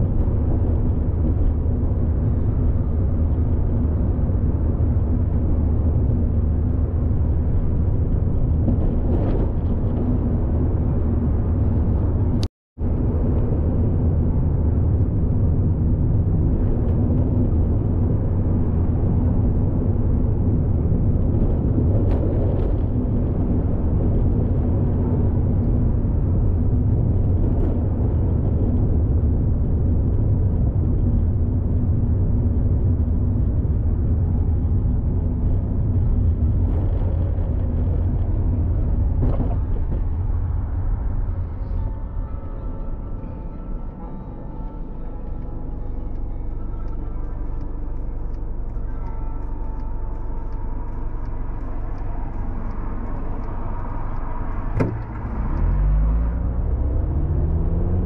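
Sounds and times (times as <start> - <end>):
vehicle rumble: 0.0 - 58.0.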